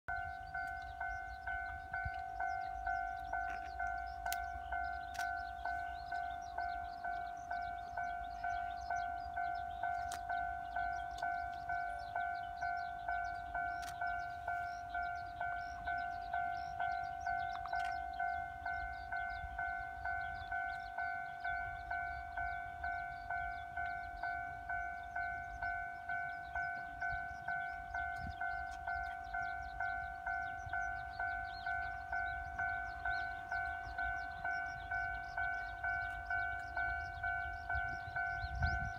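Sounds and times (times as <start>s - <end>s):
level crossing warning bell: 0.1s - 38.9s.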